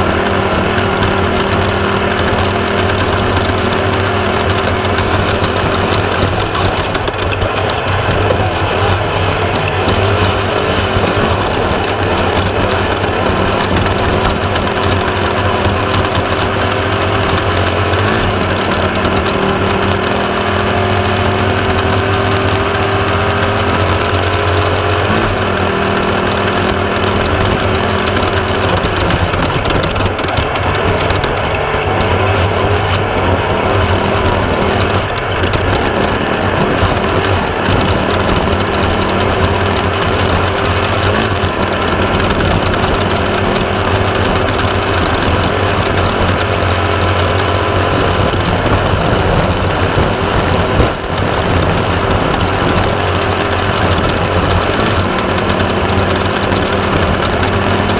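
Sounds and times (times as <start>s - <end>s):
buggy engine running under load: 0.0s - 57.9s
car rattling over rough ground: 0.0s - 57.9s.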